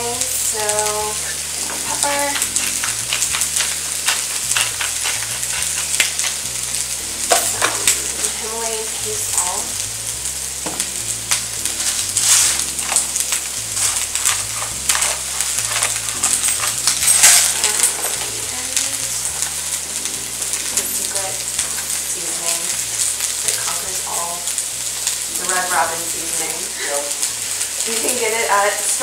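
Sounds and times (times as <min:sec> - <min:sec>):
vegetables sizzling in a pan: 0:00.0 - 0:29.0
crackling oil pops: 0:00.1 - 0:25.8.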